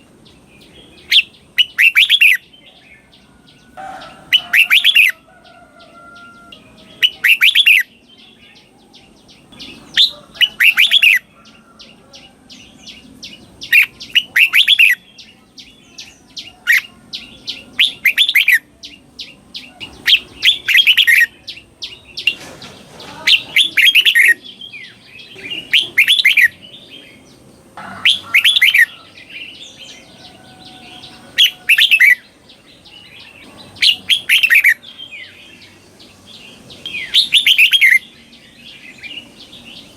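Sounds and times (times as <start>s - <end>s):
bulbul warbling song: 0.0s - 5.2s, 6.6s - 39.9s.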